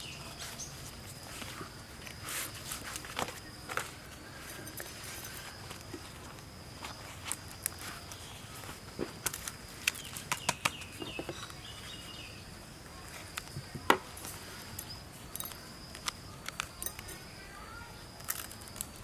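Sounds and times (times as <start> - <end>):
leaves crackling and rustling: 0.0 - 15.2, 15.9 - 19.0.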